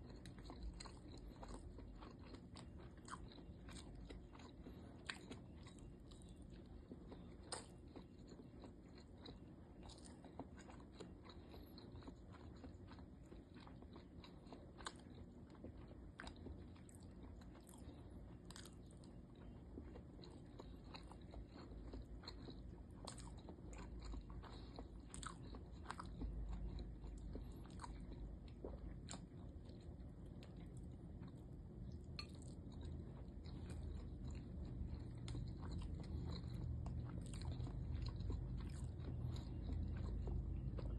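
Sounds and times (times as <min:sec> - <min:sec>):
low steady hum: 0:00.0 - 0:40.9
person chewing close-up: 0:00.0 - 0:40.9.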